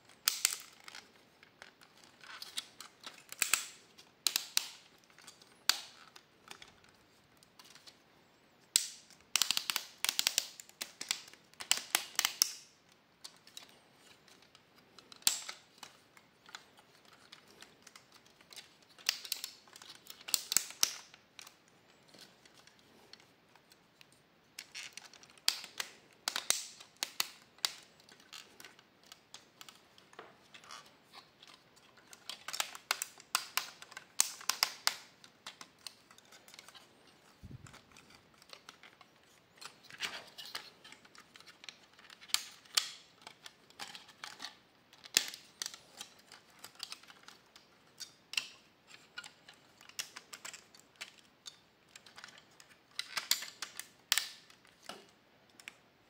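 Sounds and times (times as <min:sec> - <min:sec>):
plastic toy parts clicking: 0:00.1 - 0:08.0, 0:08.7 - 0:55.8.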